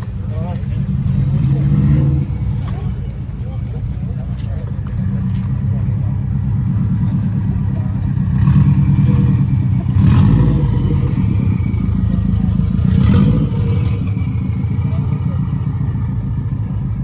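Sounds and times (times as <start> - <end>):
motorcycle engine revving: 0.6 - 2.9, 4.9 - 17.0.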